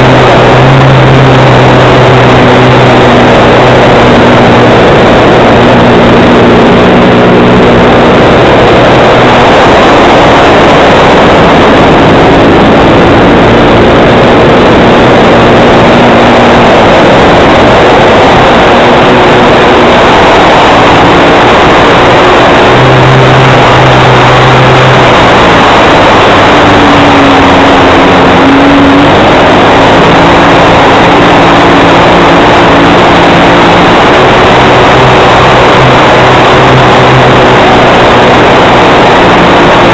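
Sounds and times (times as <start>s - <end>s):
model plane engine running: 0.0s - 39.9s.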